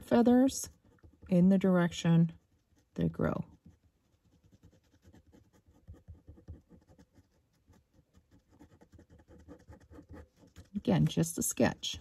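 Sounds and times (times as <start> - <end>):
pen scratching on paper: 0.2 - 12.0.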